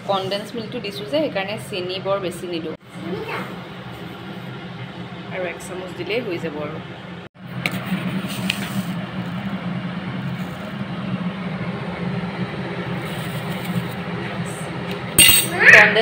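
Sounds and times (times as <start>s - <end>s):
cooling fan whirring hum: 0.0s - 16.0s.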